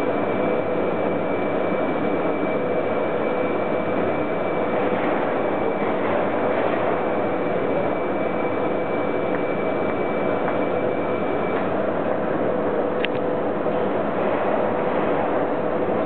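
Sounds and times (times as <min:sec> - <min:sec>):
rushing din of indoor hall: 0:00.0 - 0:16.0.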